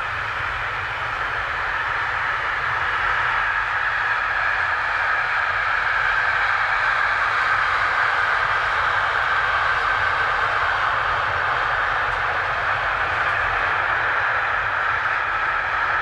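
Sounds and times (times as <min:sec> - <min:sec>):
freight train wheels rushing on rails: 0:00.0 - 0:16.0.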